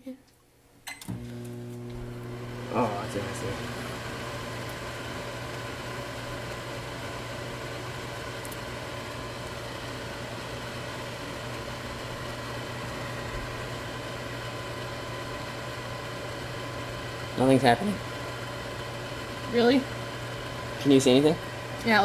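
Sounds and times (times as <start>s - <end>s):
microwave oven humming: 0.8s - 22.0s.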